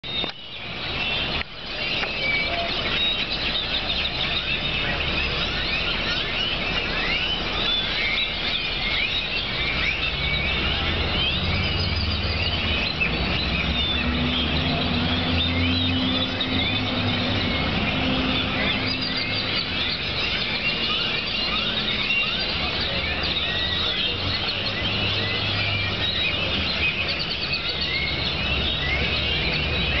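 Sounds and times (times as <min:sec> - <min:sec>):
flock of birds chattering: 0:00.0 - 0:30.0.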